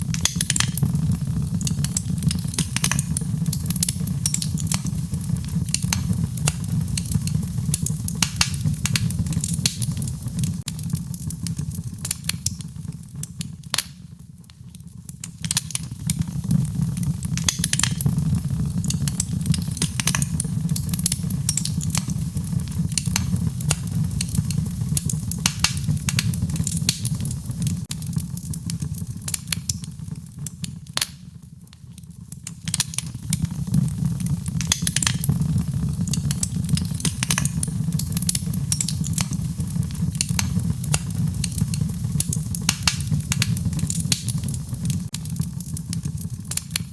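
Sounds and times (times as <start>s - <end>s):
low rumble of flames: 0.0s - 46.9s
wood fire crackling and popping: 0.0s - 46.9s.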